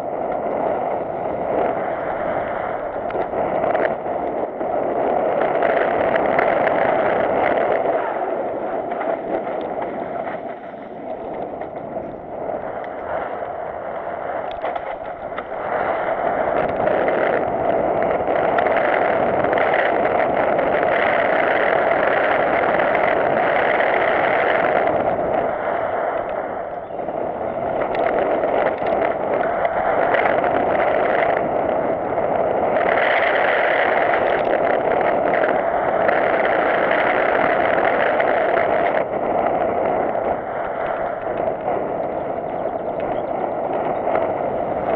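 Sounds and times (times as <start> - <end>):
bike rattling over bumps: 0.0 - 44.9
wind buffeting microphone: 0.0 - 44.9.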